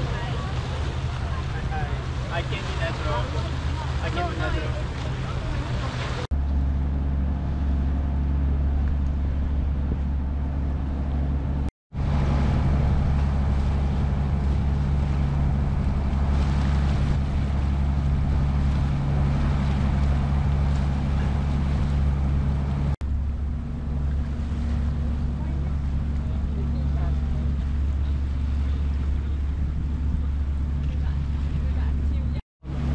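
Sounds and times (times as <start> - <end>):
boat engine humming: 0.0 - 32.9
water noise: 0.0 - 32.9
wind: 0.0 - 32.9.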